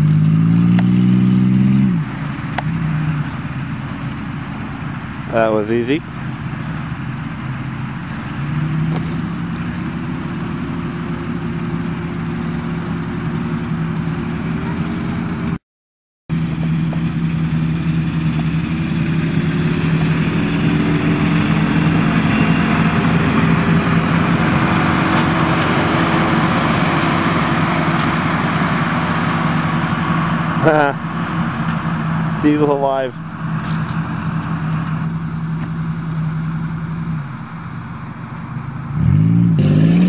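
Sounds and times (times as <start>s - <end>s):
diesel truck engine running: 0.0s - 15.6s, 16.3s - 40.0s.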